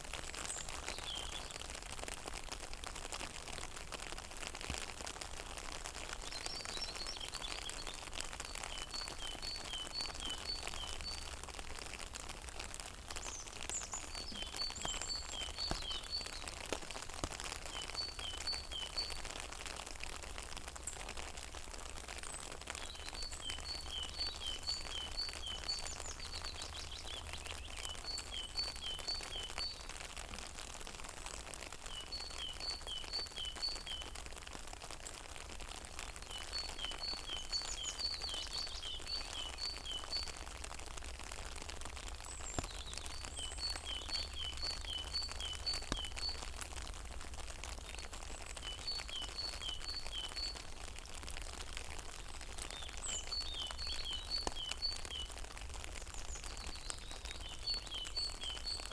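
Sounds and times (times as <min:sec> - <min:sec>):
rain pattering on pond: 0:00.0 - 0:58.9.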